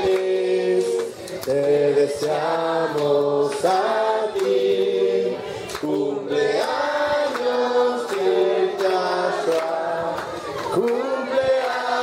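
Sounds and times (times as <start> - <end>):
hand clapping: 0.0 - 4.8, 5.6 - 11.0
group singing birthday song: 0.0 - 12.0.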